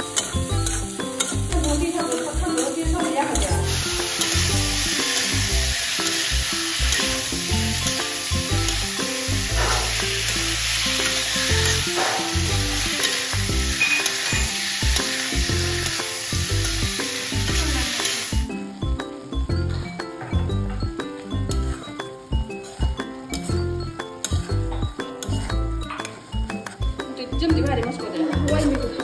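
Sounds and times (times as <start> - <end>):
spatula stirring in wok: 0.0 - 18.2, 21.4 - 27.1
background music: 0.0 - 29.0
food sizzling in hot oil: 0.0 - 29.0.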